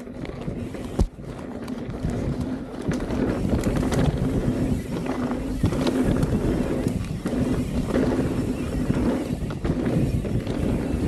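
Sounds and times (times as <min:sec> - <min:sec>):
bike rattling over bumps: 0:00.0 - 0:11.0
bike tyres rolling over dirt: 0:00.0 - 0:11.0
wind on microphone: 0:00.0 - 0:11.0.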